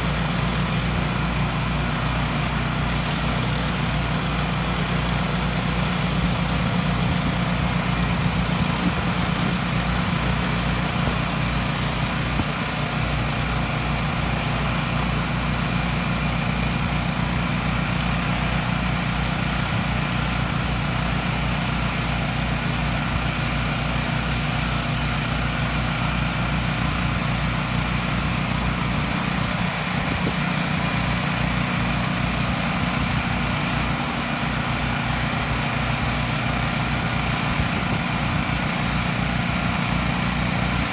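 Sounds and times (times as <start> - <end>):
high-pressure water spraying on concrete: 0.0 - 40.9
pressure washer engine running: 0.0 - 40.9.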